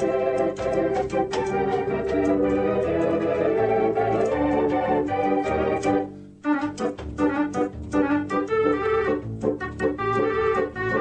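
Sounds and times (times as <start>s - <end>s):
light percussion: 0.0s - 11.0s
organ music: 0.0s - 11.0s.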